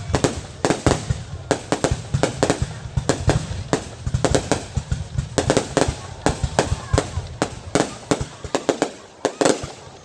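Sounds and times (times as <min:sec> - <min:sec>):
fireworks bangs and cracks: 0:00.0 - 0:10.0.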